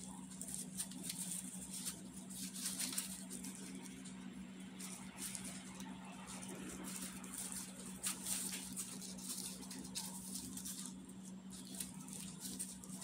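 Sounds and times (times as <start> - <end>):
grapes pulled from stems: 0.0 - 13.0
plastic gloves crinkling: 0.0 - 13.0.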